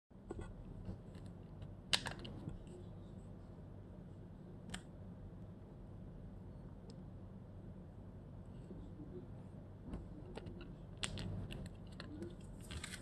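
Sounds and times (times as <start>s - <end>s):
faint low hum: 0.1s - 13.0s.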